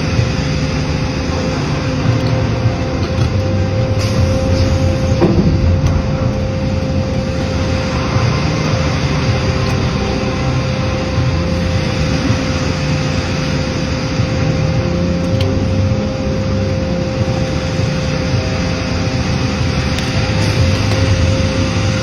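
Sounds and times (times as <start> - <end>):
steady whine: 0.0 - 22.0.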